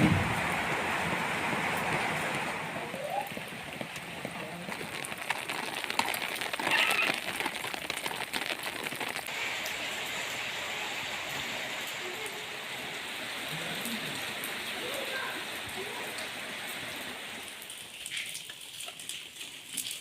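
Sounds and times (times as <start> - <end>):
rain falling: 0.0 - 20.0
raindrops hitting: 0.0 - 20.0.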